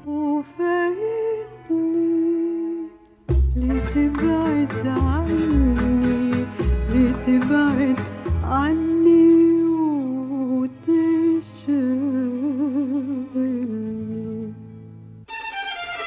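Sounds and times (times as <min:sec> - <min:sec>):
woman singing with vibrato: 0:00.0 - 0:14.6
instrumental accompaniment: 0:02.9 - 0:16.0.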